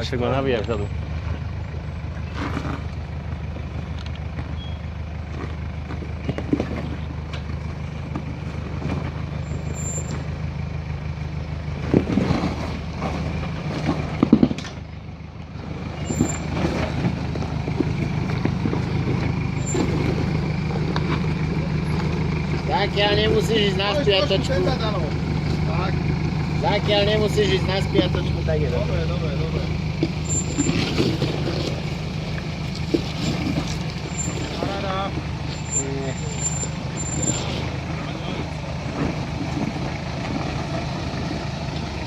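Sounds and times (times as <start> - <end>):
engine running at low revs: 0.0 - 42.0.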